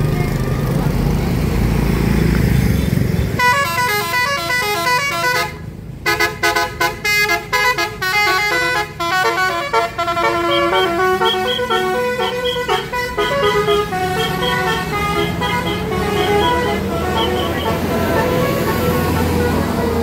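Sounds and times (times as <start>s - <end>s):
bus engine rumbling: 0.0s - 20.0s
multi-tone bus horn melody: 2.8s - 20.0s.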